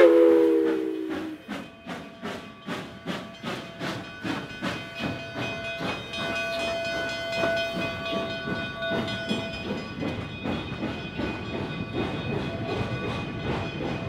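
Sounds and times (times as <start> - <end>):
steam hissing: 0.0 - 14.0
steam locomotive exhaust chuffing: 0.0 - 14.0.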